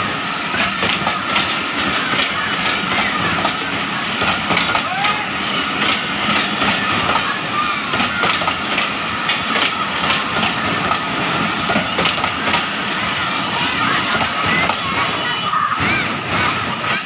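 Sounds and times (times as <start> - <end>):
wheels clacking over rail joints: 0.0 - 15.2.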